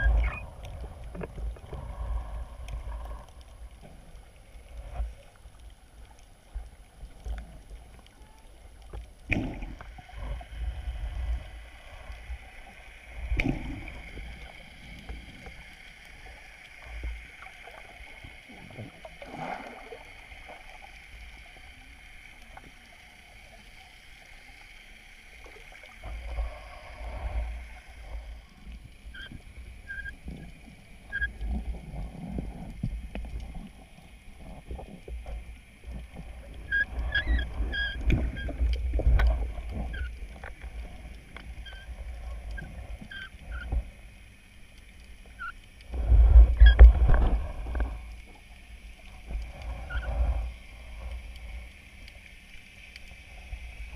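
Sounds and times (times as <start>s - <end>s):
rumbling surges of water: 0.0s - 44.6s, 45.3s - 53.9s
faint underwater hiss: 0.0s - 53.9s.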